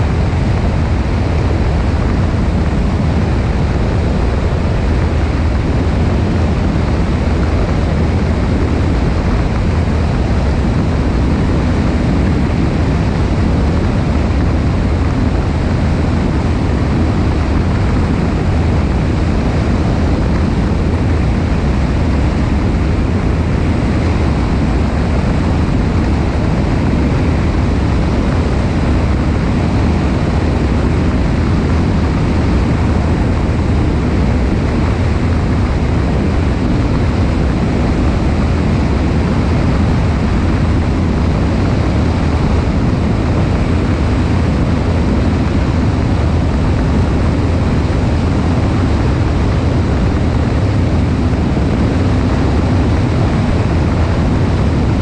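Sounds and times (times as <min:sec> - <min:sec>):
aircraft piston engine drone: 0:00.0 - 0:55.0
wind rushing over microphone: 0:00.0 - 0:55.0.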